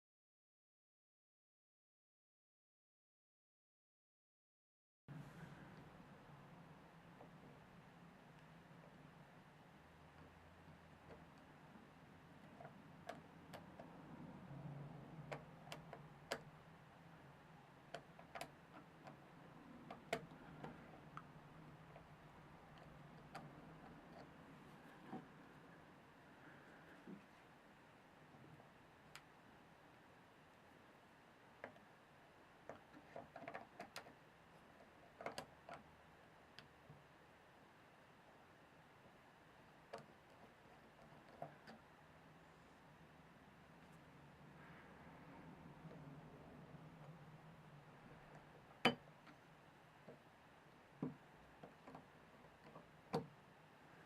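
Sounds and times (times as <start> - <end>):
low steady hum: 5.1 - 54.0.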